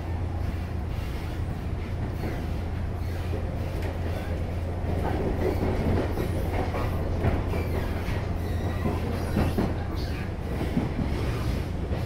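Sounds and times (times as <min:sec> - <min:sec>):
train wheels rumbling: 0:00.0 - 0:12.0
wheels clacking over rails: 0:02.0 - 0:12.0.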